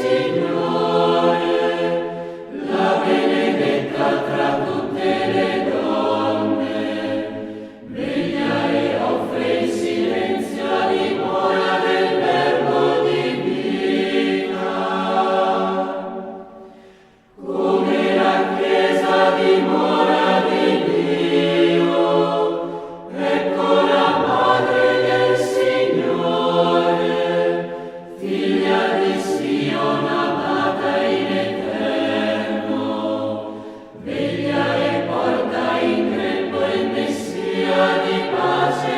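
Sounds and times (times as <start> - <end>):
choir singing chant-like phrases: 0.0 - 38.9.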